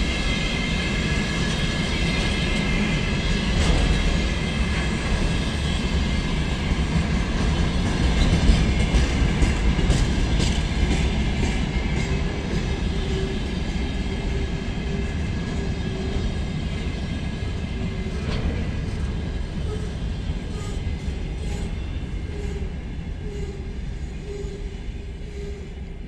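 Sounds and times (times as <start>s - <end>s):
freight wagons rolling on rails: 0.0s - 24.4s.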